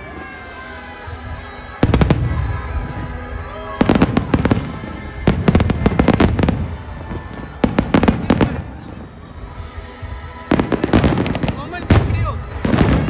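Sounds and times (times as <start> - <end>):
faint music: 0.0 - 13.0
fireworks bangs and crackles: 1.7 - 13.0.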